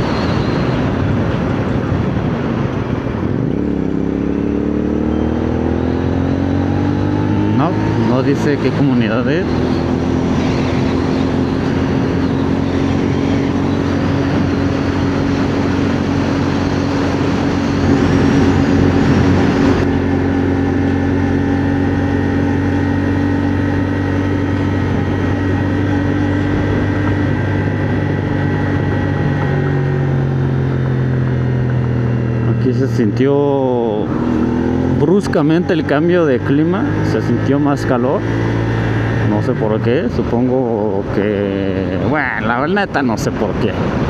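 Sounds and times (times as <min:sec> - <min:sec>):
motorcycle engine cruising: 0:00.0 - 0:44.0
wind rushing over microphone: 0:00.0 - 0:44.0.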